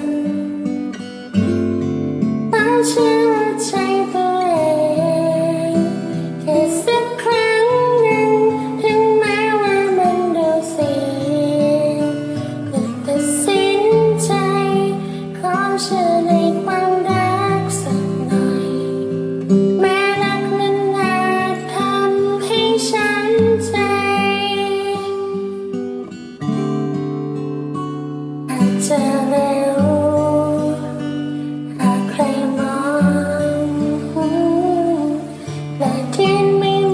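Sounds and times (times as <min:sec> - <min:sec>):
woman singing: 0:00.0 - 0:01.6, 0:02.4 - 0:26.3, 0:28.5 - 0:36.9
acoustic guitar: 0:00.0 - 0:36.9.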